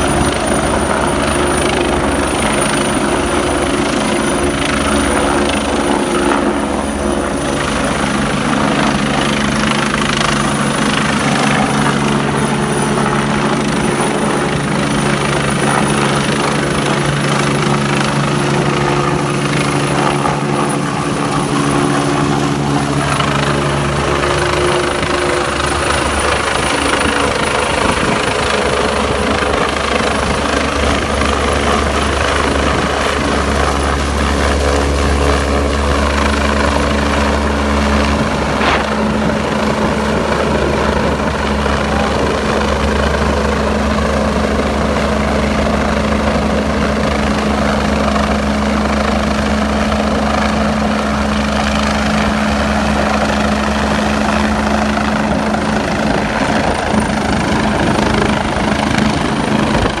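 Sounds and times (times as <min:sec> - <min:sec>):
helicopter rotor and turbine: 0:00.0 - 1:00.0.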